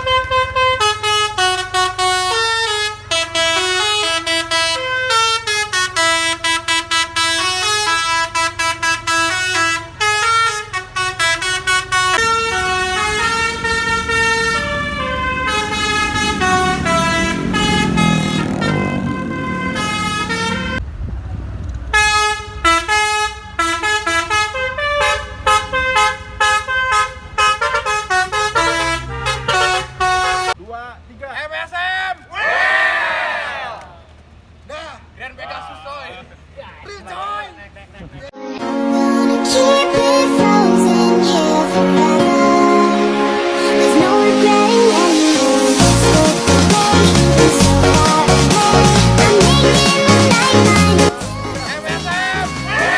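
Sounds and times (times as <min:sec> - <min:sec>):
musical bus horn tune: 0:00.0 - 0:20.8, 0:21.9 - 0:30.6, 0:38.3 - 0:52.9
bus idling hum: 0:00.0 - 0:21.1, 0:21.9 - 0:38.3, 0:39.0 - 0:52.9.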